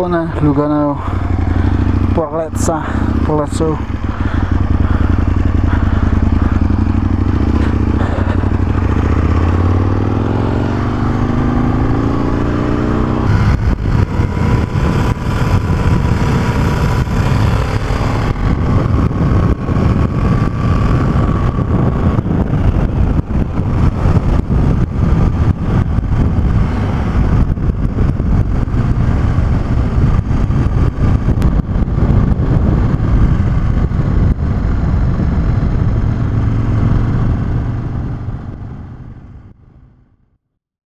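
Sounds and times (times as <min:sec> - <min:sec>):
wind over microphone: 0:00.0 - 0:39.6
motorcycle engine pulling away: 0:01.0 - 0:39.6.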